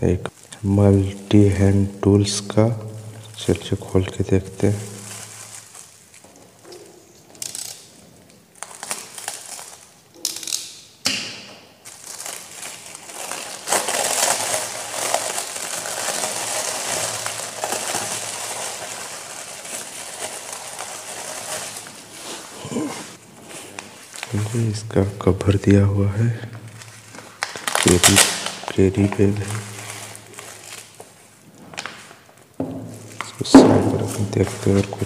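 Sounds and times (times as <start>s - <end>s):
plastic wrapping crinkling: 0.0s - 10.8s, 11.8s - 35.0s.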